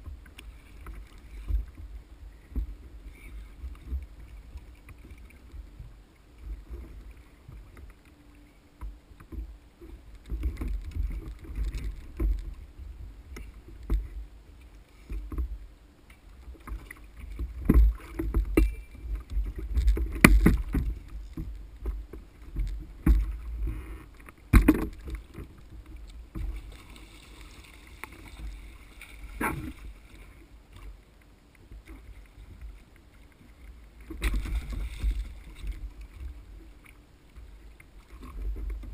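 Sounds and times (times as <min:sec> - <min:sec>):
water sloshing against hull: 0:00.0 - 0:38.9.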